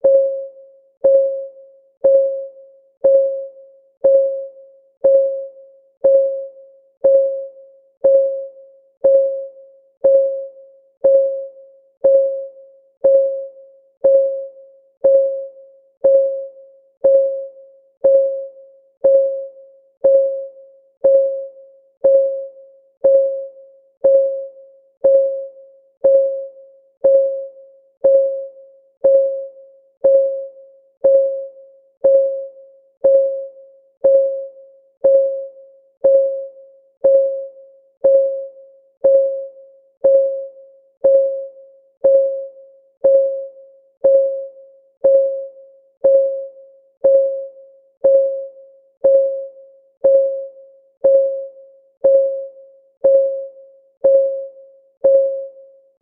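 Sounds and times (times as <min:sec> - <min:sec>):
timer ticking: 0:00.0 - 0:55.6.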